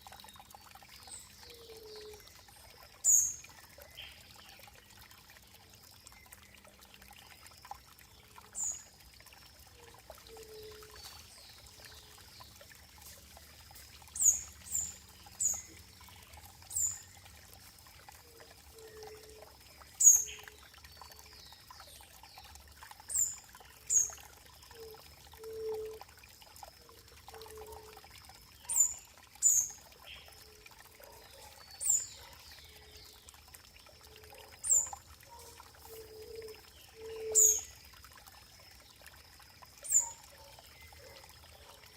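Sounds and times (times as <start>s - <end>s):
water trickling and pouring: 0.0s - 41.9s.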